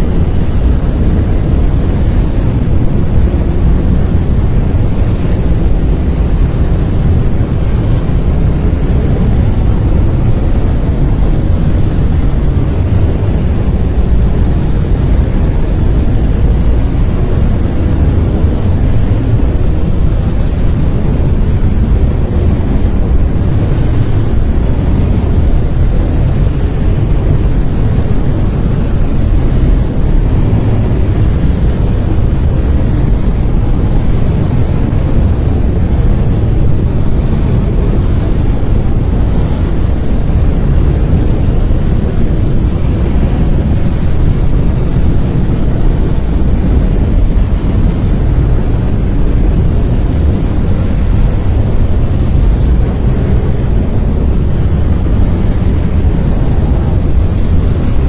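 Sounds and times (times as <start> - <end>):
deep rumbling brown noise: 0.0 - 58.0.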